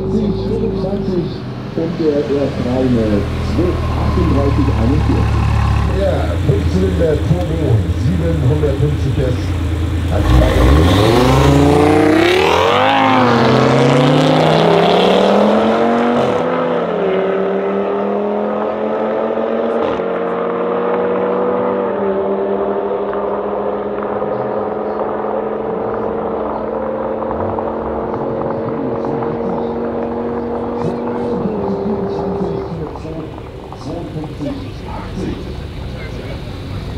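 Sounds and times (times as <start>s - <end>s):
car engines accelerating: 0.0s - 36.9s.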